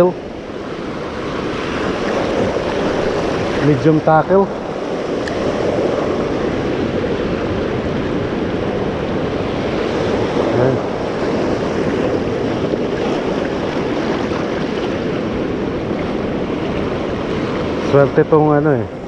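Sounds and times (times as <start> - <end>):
waves washing over sand: 0.0 - 19.0
wind buffeting microphone: 0.0 - 19.0.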